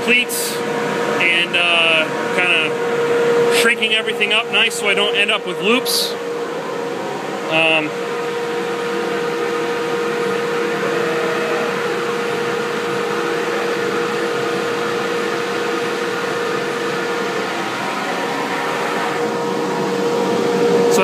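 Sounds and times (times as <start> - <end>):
dust collector running: 0.0 - 21.0.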